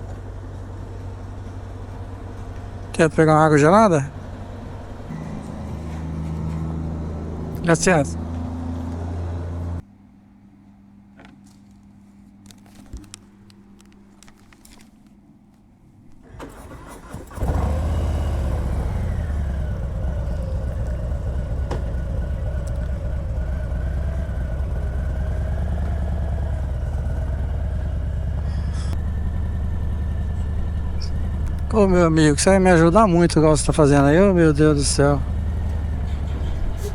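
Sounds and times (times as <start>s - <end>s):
motorcycle engine starting and idling: 0.0s - 9.8s, 16.1s - 36.9s.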